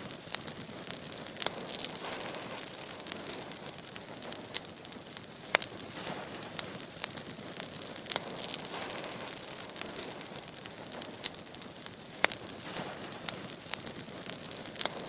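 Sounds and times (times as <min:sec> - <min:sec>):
fire crackling and popping: 0:00.0 - 0:15.0
fire hissing: 0:00.0 - 0:15.0.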